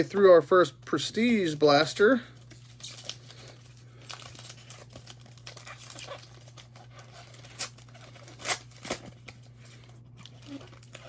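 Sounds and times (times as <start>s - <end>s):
steady low hum: 0.0s - 11.0s
wrapper crinkling and tearing: 2.0s - 11.0s.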